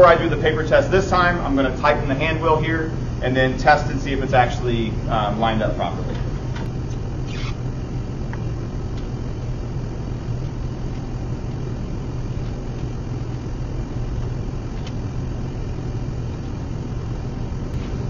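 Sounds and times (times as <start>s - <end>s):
air handling hum and rush: 0.0s - 18.0s.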